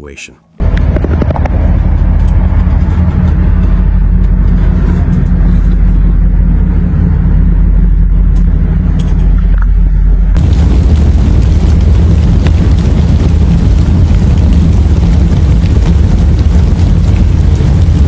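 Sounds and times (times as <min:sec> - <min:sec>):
low rumble of road vehicles: 0:00.5 - 0:18.0.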